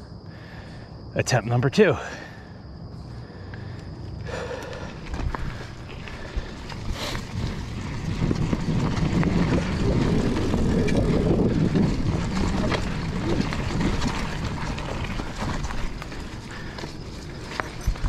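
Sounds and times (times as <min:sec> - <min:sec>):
tyres rumbling over dirt: 0:03.2 - 0:18.0
bike clicks and rattles: 0:03.5 - 0:18.0.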